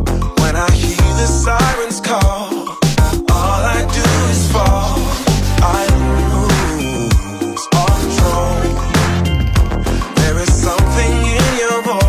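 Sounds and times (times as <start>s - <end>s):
upbeat pop music with bass: 0.0s - 12.0s.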